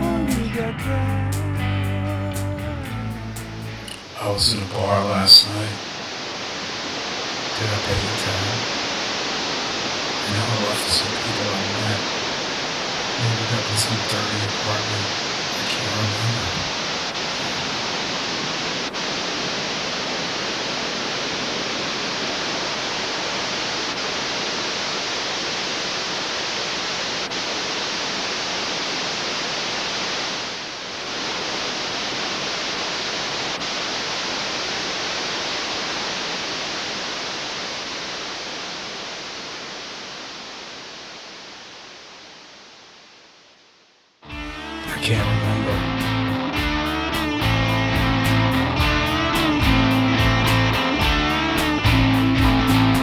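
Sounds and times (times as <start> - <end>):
steady rushing noise: 3.6 - 43.7, 44.4 - 53.0.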